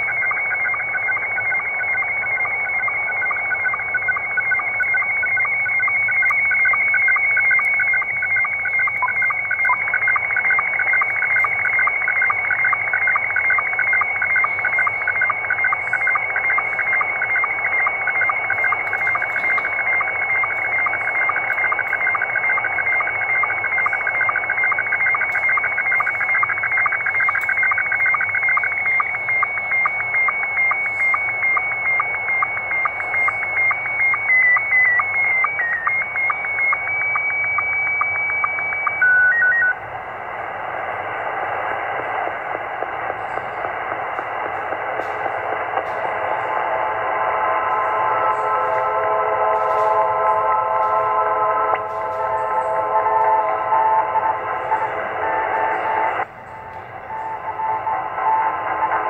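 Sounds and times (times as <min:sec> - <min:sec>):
radio static: 0:00.0 - 0:59.0
rhythmic sync pulse ticking: 0:00.0 - 0:59.0
warbling radio tones: 0:00.0 - 0:59.0.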